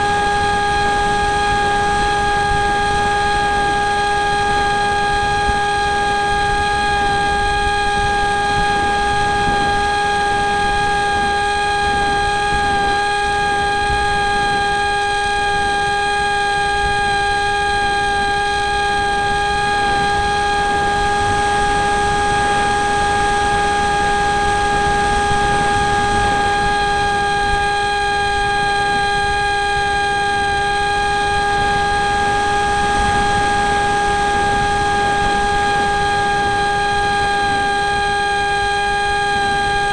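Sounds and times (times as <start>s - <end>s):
wind rushing against microphone: 0.0s - 38.2s
electric motor propeller whine: 0.0s - 39.9s.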